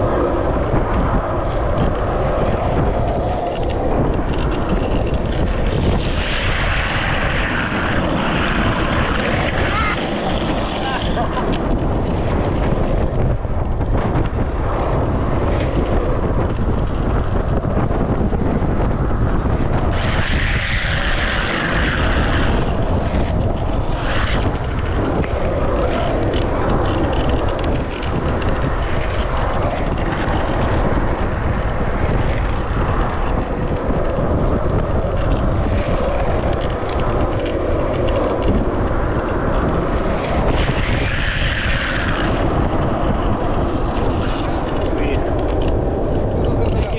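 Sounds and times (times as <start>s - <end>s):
wheels rolling on asphalt: 0.0s - 46.9s
wind rushing over microphone: 0.0s - 46.9s.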